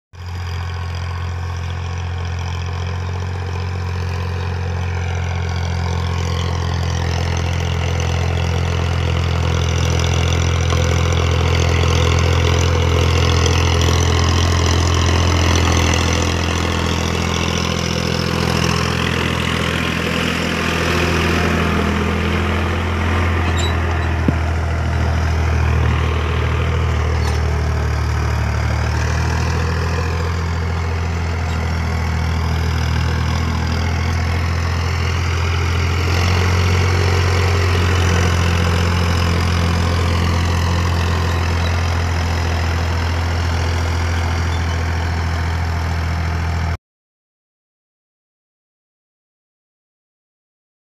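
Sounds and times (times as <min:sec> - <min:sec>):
tractor diesel engine droning: 0:00.2 - 0:46.8.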